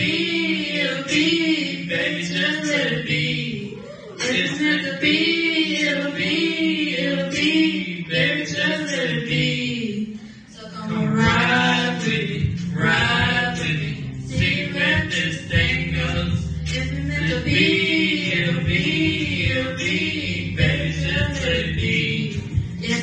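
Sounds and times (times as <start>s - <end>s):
two people singing unaccompanied: 0.0s - 23.0s.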